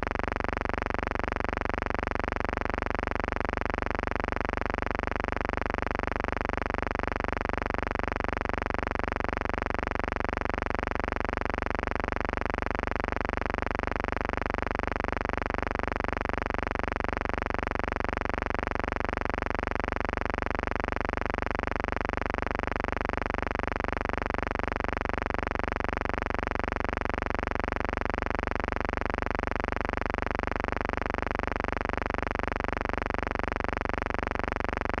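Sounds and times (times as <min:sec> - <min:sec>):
buzzing hum with pulse: 0:00.0 - 0:35.0.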